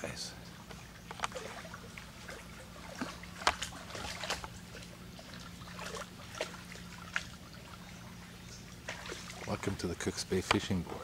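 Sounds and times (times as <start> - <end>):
small waves lapping on shore: 0.0 - 11.0
steady low hum: 0.0 - 11.0.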